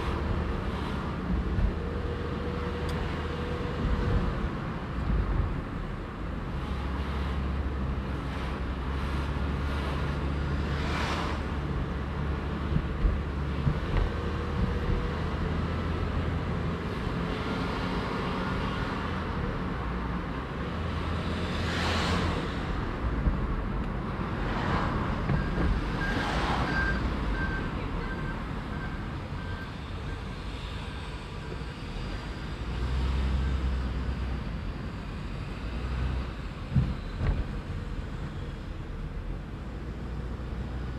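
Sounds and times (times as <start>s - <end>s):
car engine and road rumble: 0.0s - 40.9s
passing vehicles swishing by: 0.0s - 40.9s.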